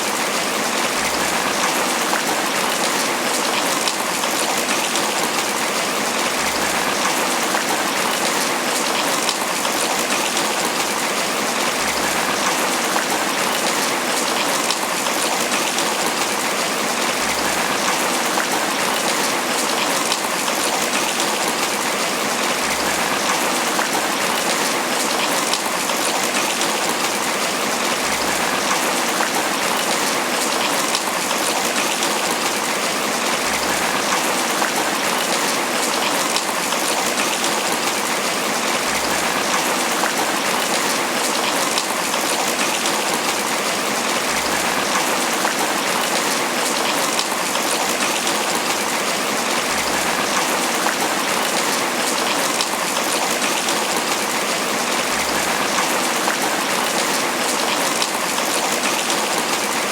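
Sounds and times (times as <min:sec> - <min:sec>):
heavy rain pattering on leaves: 0:00.0 - 0:59.9.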